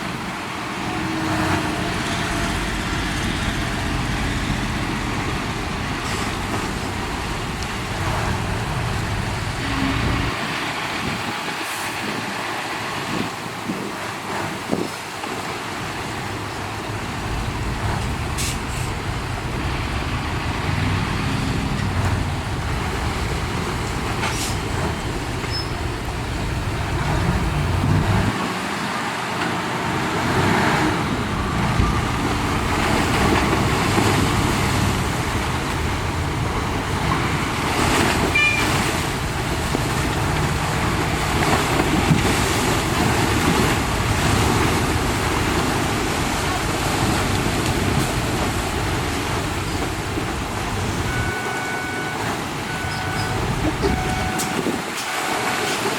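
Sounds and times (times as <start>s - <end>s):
diesel truck engine running: 0.0s - 10.6s, 15.8s - 55.8s.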